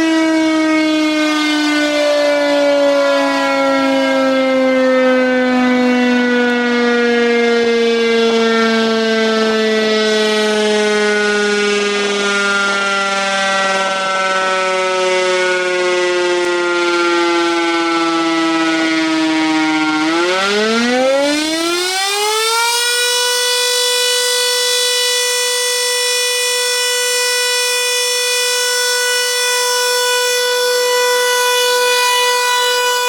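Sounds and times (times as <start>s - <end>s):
muffled warning siren: 0.0s - 33.0s.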